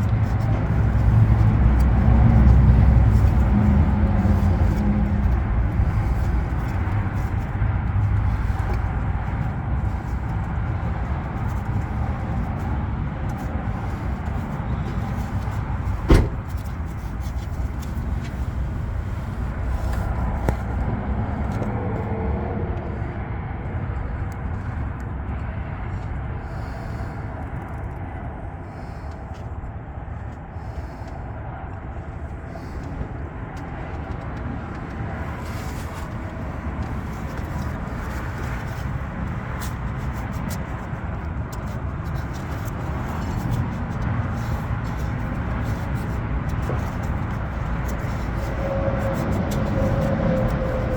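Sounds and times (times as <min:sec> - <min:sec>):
low vehicle rumble: 0:00.0 - 0:50.9.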